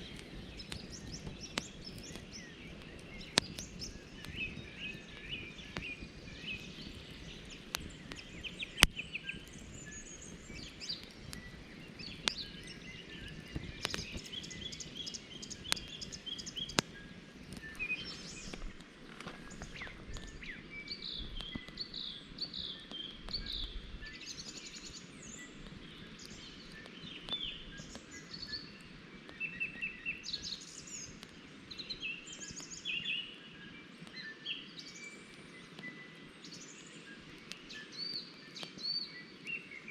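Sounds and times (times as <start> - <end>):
birds chirping and trilling: 0.0 - 39.9
outdoor background noise: 0.0 - 39.9.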